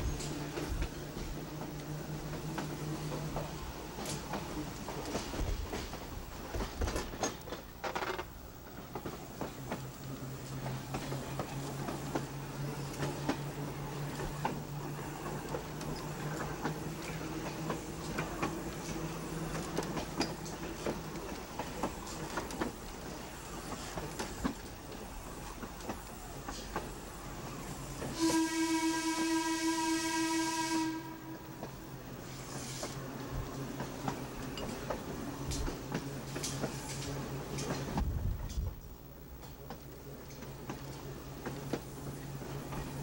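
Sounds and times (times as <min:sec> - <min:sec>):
streetcar wheels clicking on rail joints: 0:00.0 - 0:28.2, 0:31.6 - 0:43.0.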